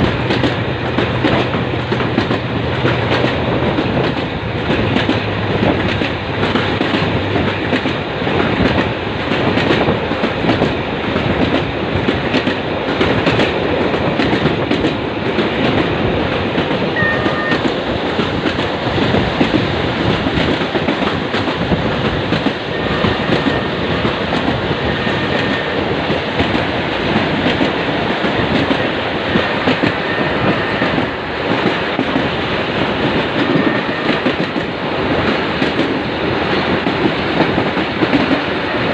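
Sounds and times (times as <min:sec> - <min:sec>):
train rumbling at speed: 0:00.0 - 0:38.9.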